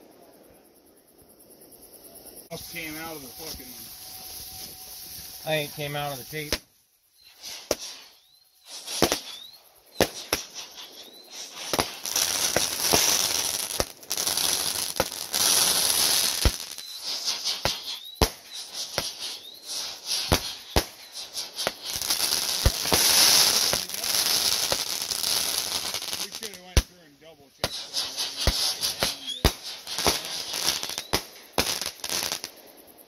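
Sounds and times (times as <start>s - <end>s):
crackling hiss of spraying sparks: 2.2s - 33.0s
fireworks bangs: 2.5s - 32.7s.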